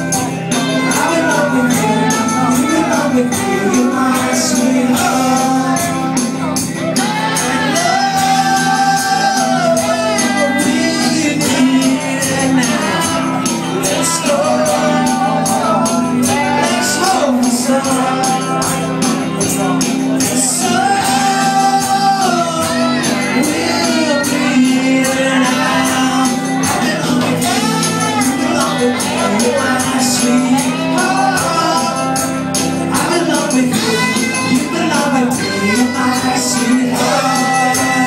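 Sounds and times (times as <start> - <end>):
guitar: 0.0 - 38.0
man singing: 0.0 - 38.0.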